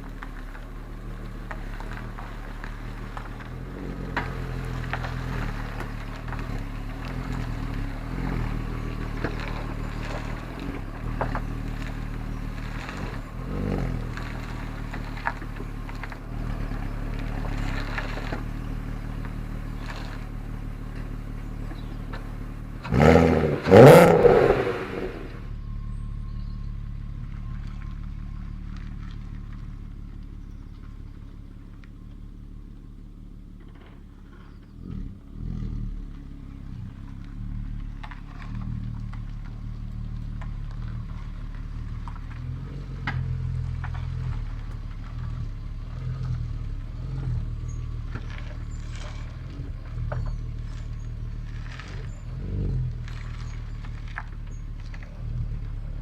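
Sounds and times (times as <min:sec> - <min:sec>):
car engine idling: 0:00.0 - 0:56.0
engine revving: 0:00.0 - 0:56.0.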